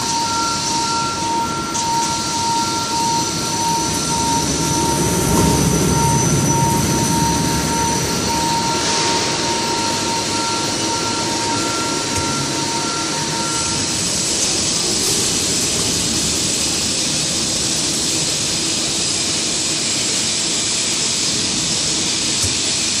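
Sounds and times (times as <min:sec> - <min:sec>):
crane mechanical running noise: 0:00.0 - 0:23.0
steady two-pitch whine: 0:00.0 - 0:23.0.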